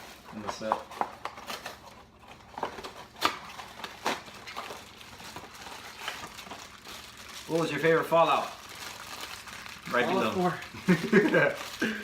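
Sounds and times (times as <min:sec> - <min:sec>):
cardboard packaging torn open: 0:00.0 - 0:12.0.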